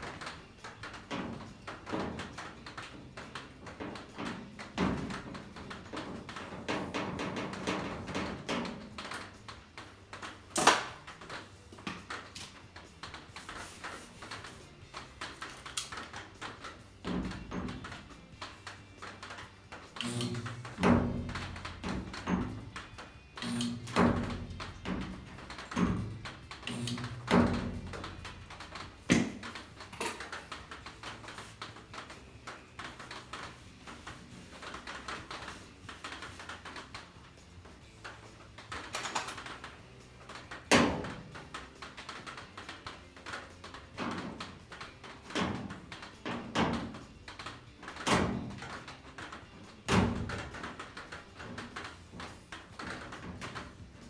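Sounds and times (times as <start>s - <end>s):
metal tools knocking and clunking: 0.0s - 13.4s, 14.2s - 54.0s.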